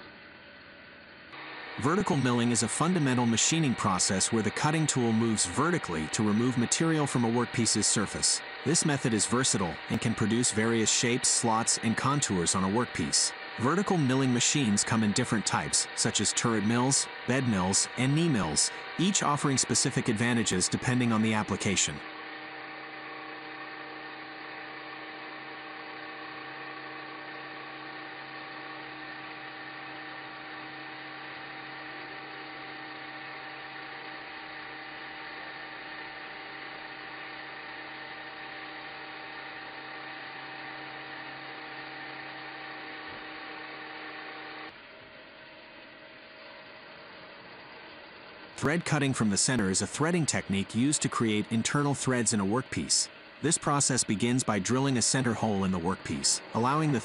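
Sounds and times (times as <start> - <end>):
lathe machine whirring: 0.0 - 57.0
end mill cutting metal: 1.4 - 57.0.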